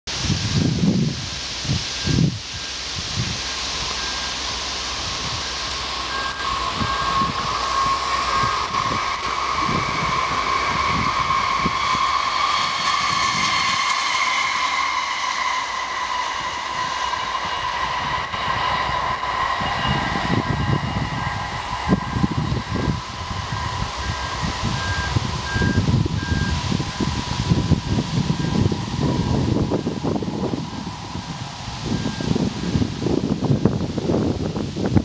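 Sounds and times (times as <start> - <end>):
train high whine: 0.1 - 35.0
train wheels hissing on rails: 0.1 - 35.0.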